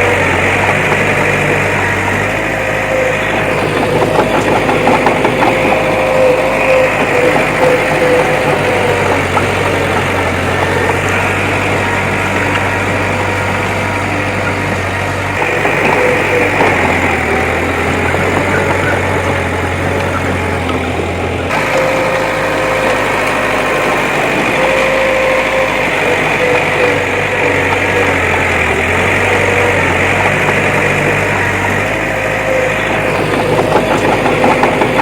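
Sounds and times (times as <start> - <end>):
constant whine: 0.0 - 35.0
heavy machine engine droning: 0.0 - 35.0.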